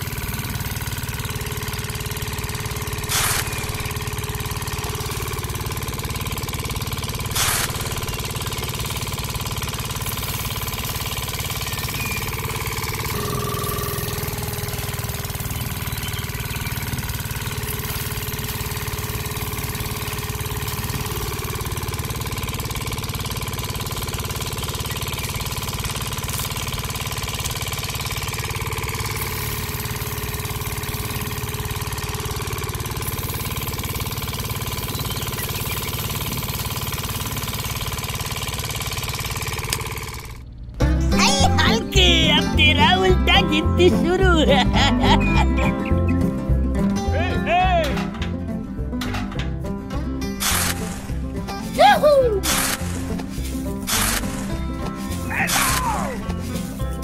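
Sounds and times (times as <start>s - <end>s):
small motor chugging: 0.0s - 47.1s, 47.9s - 57.0s.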